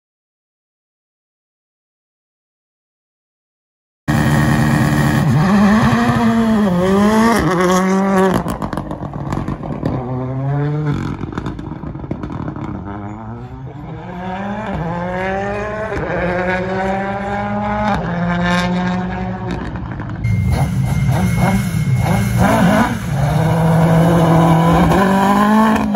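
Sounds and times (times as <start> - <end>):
rally car engine revving: 4.1 - 25.9.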